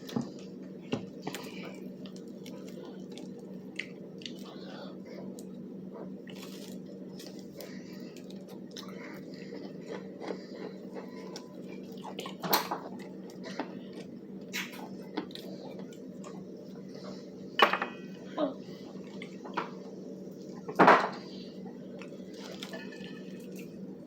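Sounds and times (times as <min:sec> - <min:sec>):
chewing crispy fried chicken: 0:00.0 - 0:17.4, 0:21.6 - 0:23.9
steady low hum: 0:00.0 - 0:24.0.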